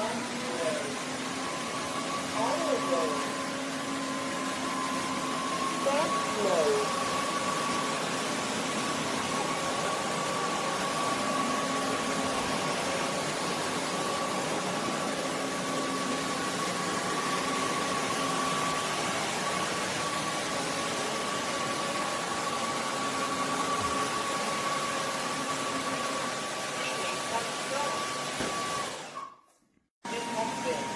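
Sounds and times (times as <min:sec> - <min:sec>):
vacuum mop whining: 0:00.0 - 0:29.5, 0:30.1 - 0:30.9.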